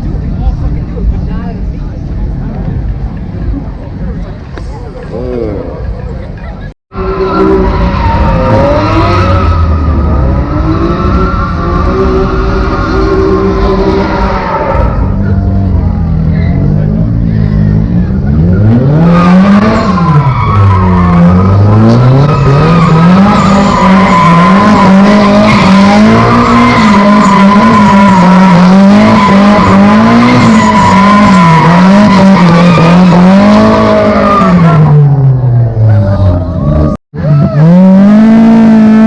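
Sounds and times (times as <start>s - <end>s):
car engine revving: 6.9s - 39.0s.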